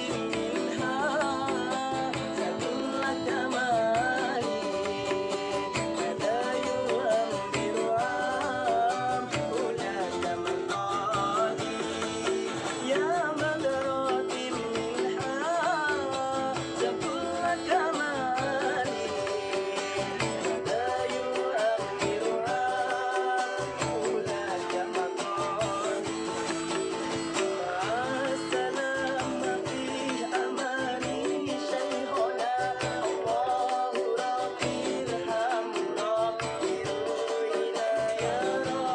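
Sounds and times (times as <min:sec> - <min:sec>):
person singing with ornamented runs: 0:00.0 - 0:38.9
plucked-string accompaniment: 0:00.0 - 0:38.9
steady beat: 0:00.0 - 0:38.9.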